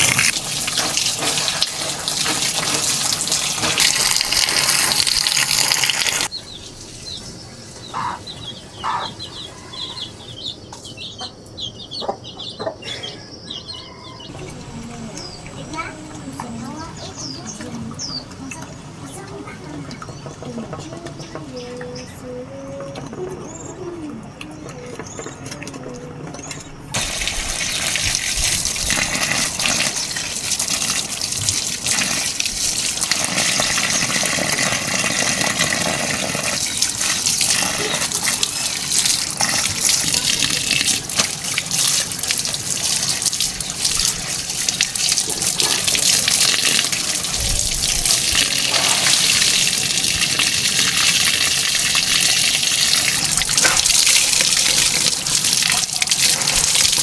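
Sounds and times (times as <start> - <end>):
water gushing: 0.0 - 8.1, 14.2 - 23.2, 26.9 - 57.0.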